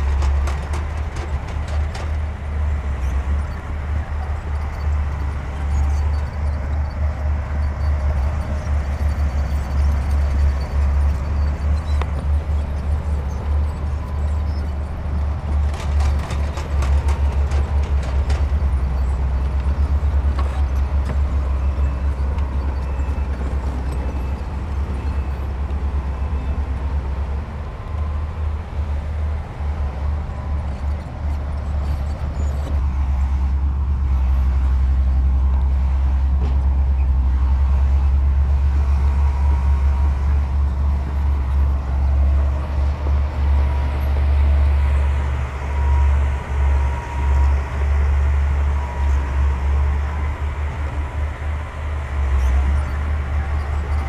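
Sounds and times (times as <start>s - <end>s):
diesel machinery rumble: 0.0s - 54.0s.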